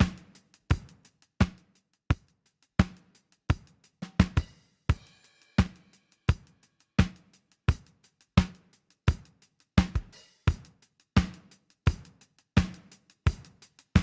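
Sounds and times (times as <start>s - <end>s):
drum kit playing a beat: 0.0s - 14.0s.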